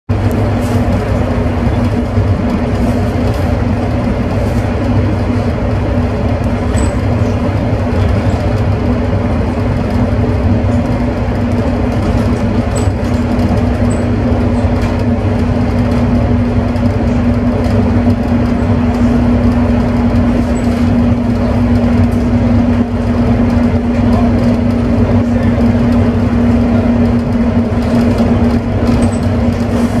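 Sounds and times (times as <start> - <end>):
bus engine drone: 0.1 - 30.0
road noise: 0.1 - 30.0.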